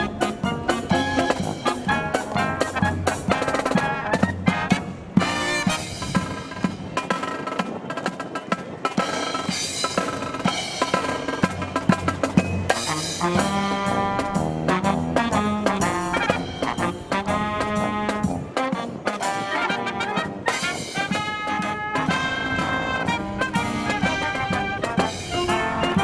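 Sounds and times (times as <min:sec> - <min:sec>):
brass marching band playing: 0:00.0 - 0:26.0.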